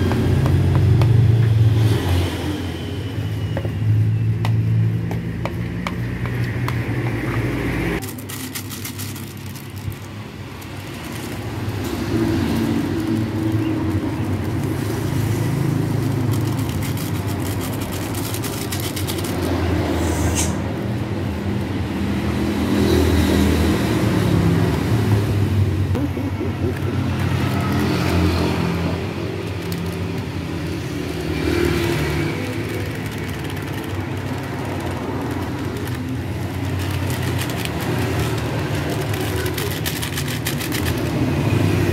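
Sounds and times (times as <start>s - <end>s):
motor vehicle engine running: 0.0s - 20.2s, 24.0s - 41.9s.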